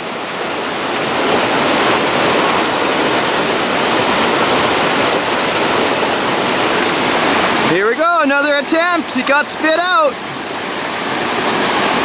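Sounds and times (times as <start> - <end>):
white water rushing: 0.0 - 12.0.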